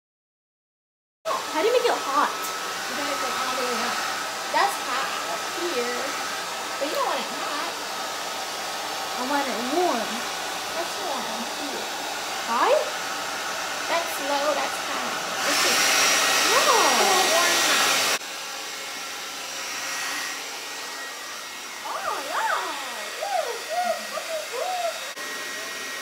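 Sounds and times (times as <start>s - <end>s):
hair dryer running: 1.3s - 26.0s.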